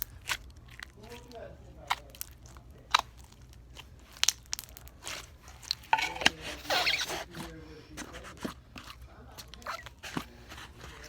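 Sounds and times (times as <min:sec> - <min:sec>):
slime popping and crackling: 0:00.0 - 0:11.0.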